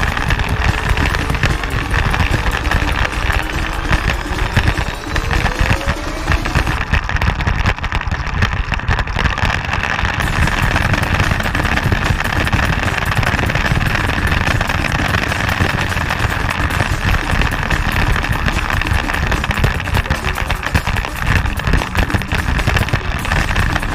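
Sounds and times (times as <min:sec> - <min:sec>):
motorcycle engine running: 0:00.0 - 0:08.1, 0:09.8 - 0:23.9.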